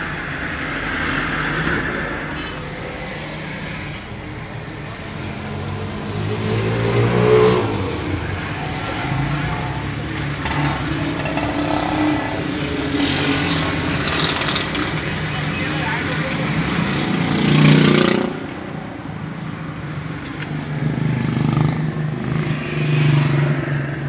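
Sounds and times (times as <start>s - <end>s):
car engine: 0.0s - 24.0s
road noise: 0.0s - 24.0s.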